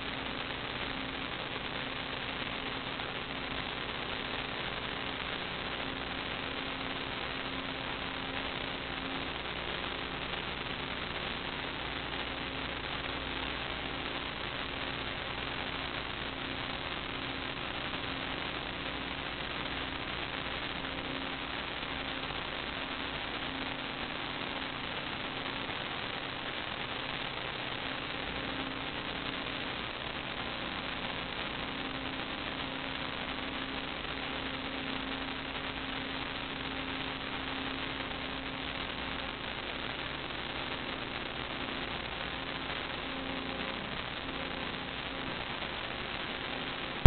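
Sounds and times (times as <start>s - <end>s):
faint electrical hum: 0.0s - 47.0s
steady hiss: 0.0s - 47.0s.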